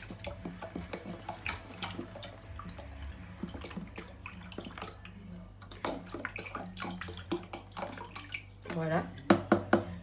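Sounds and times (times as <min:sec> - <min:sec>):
milk pouring into saucepan: 0:00.0 - 0:08.8.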